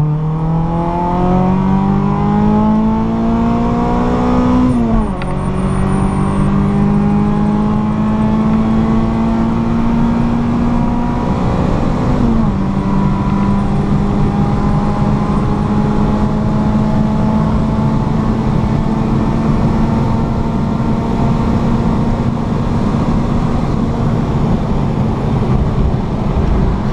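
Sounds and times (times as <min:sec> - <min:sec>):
car engine pulling hard: 0:00.0 - 0:26.9
road and wind rumble: 0:00.0 - 0:26.9.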